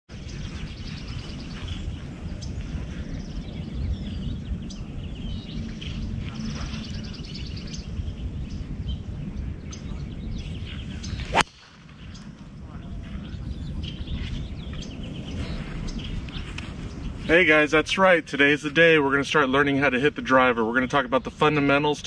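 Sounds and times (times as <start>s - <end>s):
birds chirping and trilling: 0.1s - 22.0s.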